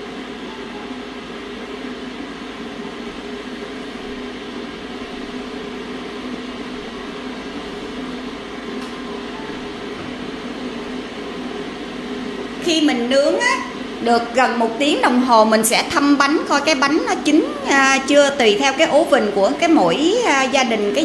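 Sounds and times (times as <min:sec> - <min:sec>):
fan motor humming: 0:00.0 - 0:21.0.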